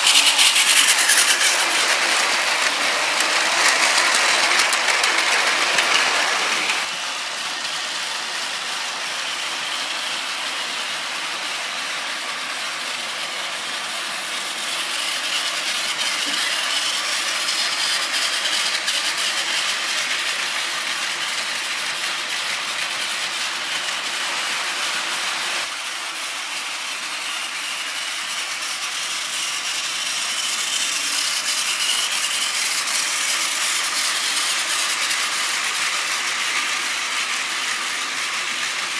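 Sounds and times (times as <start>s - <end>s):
wheels clattering over plastic track: 0.0s - 7.8s, 11.4s - 38.9s
toy train motor whir: 0.0s - 38.9s.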